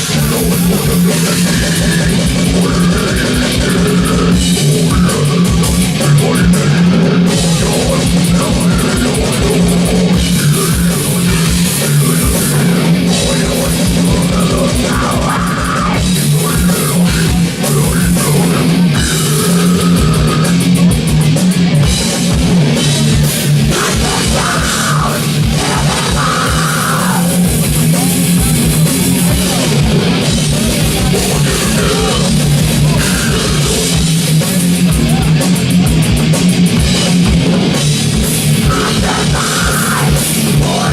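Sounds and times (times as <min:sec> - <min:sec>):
distorted electric guitars: 0:00.0 - 0:40.9
heavy metal band playing: 0:00.0 - 0:40.9
rapid kick drum: 0:00.0 - 0:40.9.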